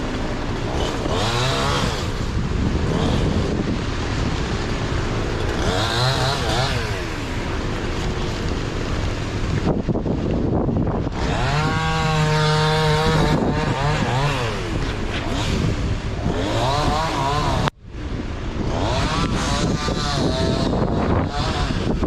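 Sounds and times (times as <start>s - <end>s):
chainsaw revving: 0.0s - 9.7s, 11.0s - 17.8s, 18.5s - 22.0s
wind buffeting microphone: 0.0s - 22.0s.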